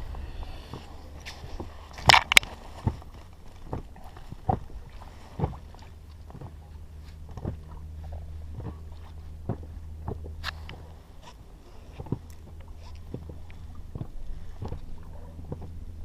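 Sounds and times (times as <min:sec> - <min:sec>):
low steady rumble: 0:00.0 - 0:16.0
knocks and taps in dinghy: 0:00.6 - 0:16.0.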